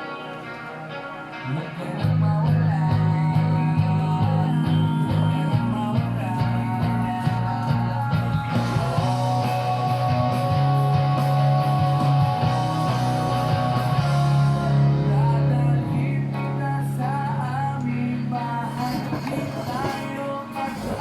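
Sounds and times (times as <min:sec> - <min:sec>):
person singing: 0:00.0 - 0:21.0
rock song with guitar and bass: 0:00.0 - 0:21.0.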